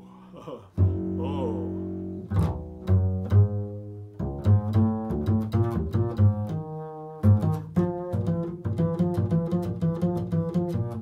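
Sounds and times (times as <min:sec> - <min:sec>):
double bass plucked: 0:00.7 - 0:11.0.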